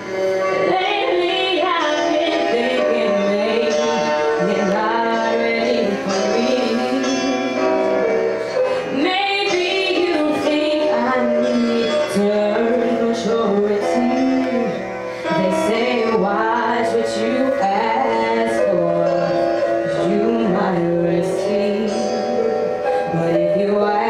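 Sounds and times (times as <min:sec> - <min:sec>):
musical accompaniment: 0:00.0 - 0:24.0
woman singing into a microphone: 0:00.5 - 0:07.6, 0:08.7 - 0:24.0.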